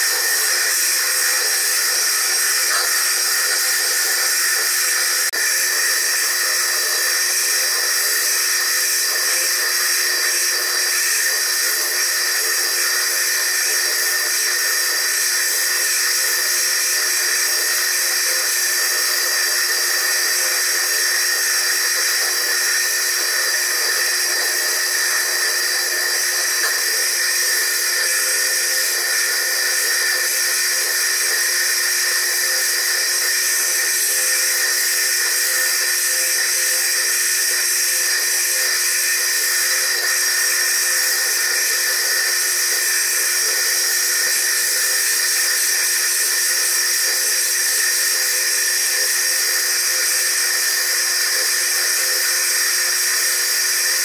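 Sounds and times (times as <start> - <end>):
lathe grinding stone: 0.0 - 54.0.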